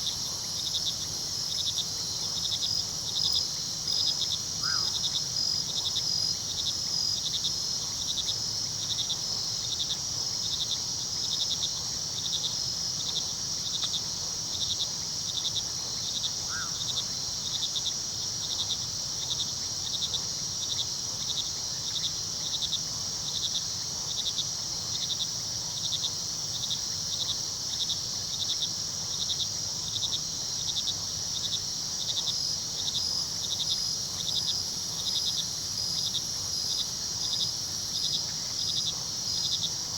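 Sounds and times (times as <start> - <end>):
cricket pulsed chirp: 0.0 - 39.9.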